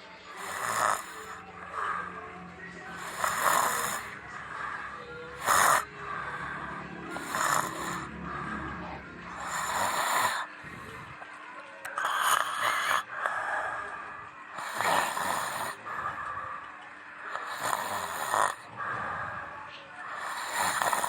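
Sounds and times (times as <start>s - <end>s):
person snoring: 0.3s - 2.2s, 2.8s - 11.2s, 11.9s - 21.0s.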